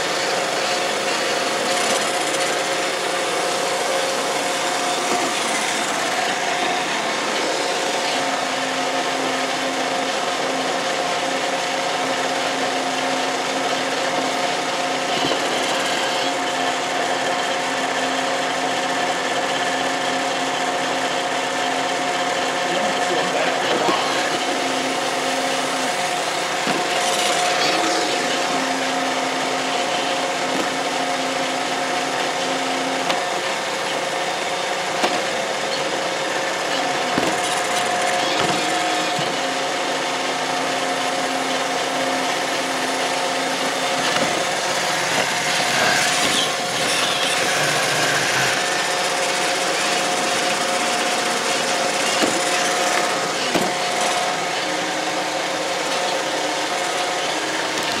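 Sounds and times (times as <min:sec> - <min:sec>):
low motor tone: 0:00.0 - 0:58.0
robot vacuum whirring: 0:00.0 - 0:58.0.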